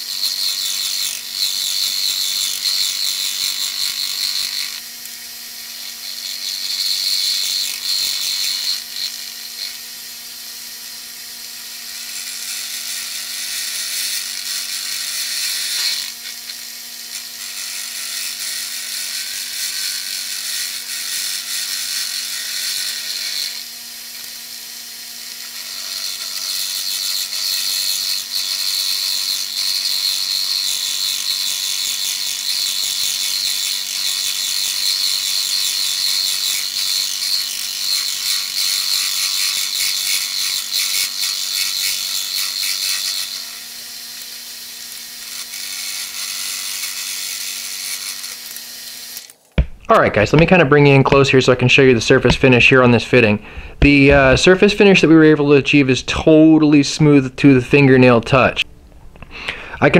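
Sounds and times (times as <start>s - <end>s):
drill press hum: 0.0s - 56.4s
high-pitched metal cutting noise: 0.0s - 58.7s.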